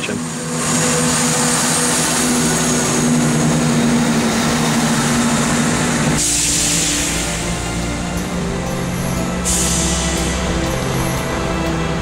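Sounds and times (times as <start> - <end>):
diesel train engine humming: 0.0 - 12.0.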